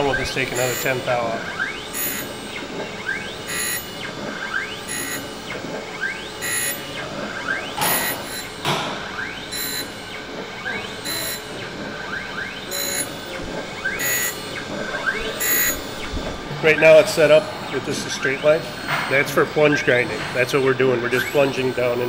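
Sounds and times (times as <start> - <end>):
grinding wheel hissing on metal: 0.0 - 22.0
short rising whines: 0.0 - 22.0.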